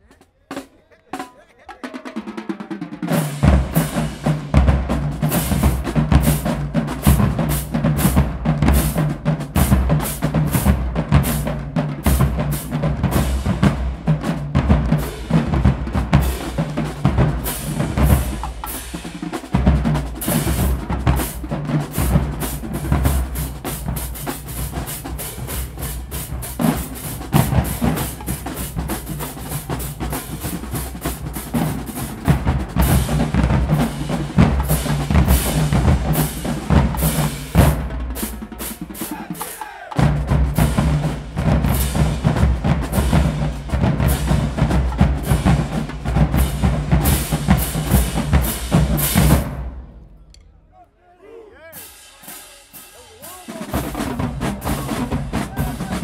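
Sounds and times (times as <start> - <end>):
rapid snare drum strokes: 0.0 - 50.0, 51.7 - 56.0.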